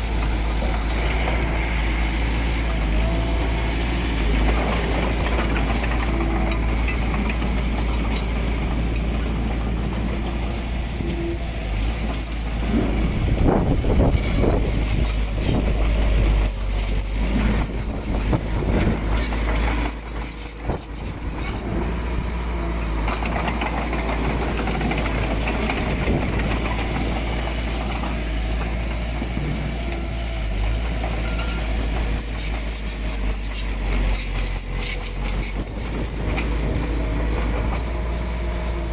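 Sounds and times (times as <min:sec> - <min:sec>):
diesel machinery engine rumble: 0:00.0 - 0:38.9.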